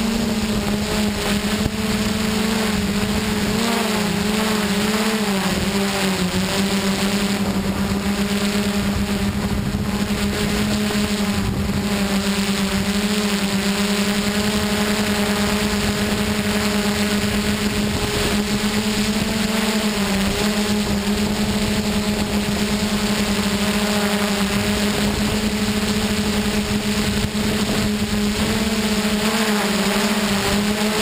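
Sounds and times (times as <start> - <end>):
drone motors humming: 0.0 - 31.0.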